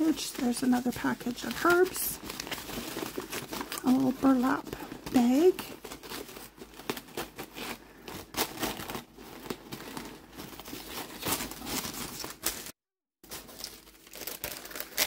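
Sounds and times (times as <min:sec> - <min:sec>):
paper and packaging rustling: 0:00.0 - 0:15.0.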